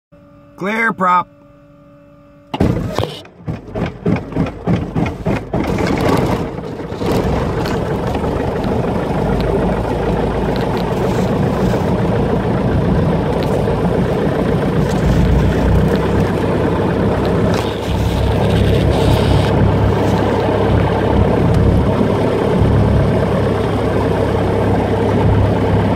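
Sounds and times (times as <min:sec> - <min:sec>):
aircraft piston engine starting: 0:02.4 - 0:25.9.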